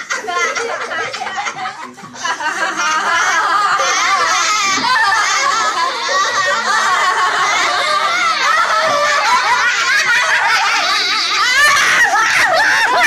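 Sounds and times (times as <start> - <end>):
children laughing: 0.0 - 13.0.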